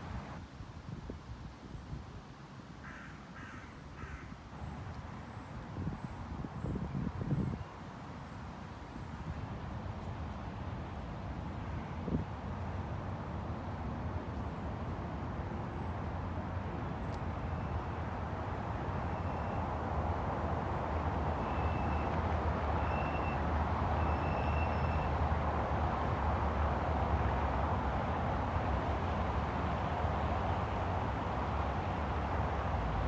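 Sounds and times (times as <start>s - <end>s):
street traffic rumble: 0.0s - 0.4s, 3.9s - 33.0s.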